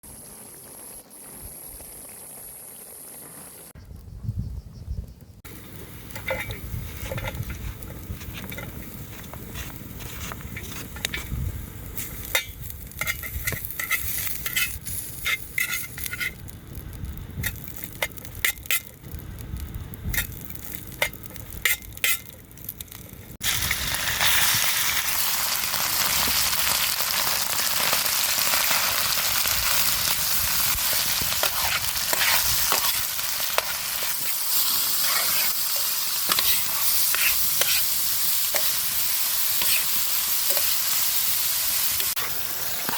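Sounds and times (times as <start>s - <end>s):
meat sizzling: 5.4s - 42.9s.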